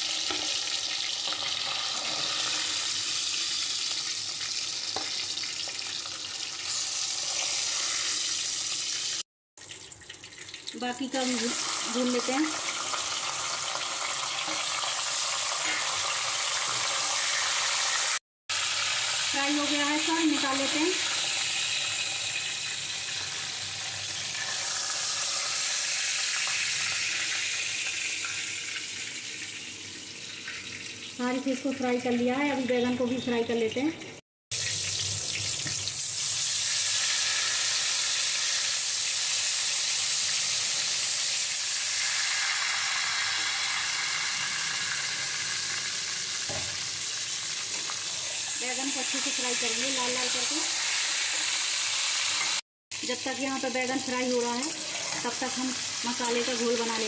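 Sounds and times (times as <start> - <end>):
fish sizzling in hot oil: 0.0 - 33.8, 34.5 - 57.0.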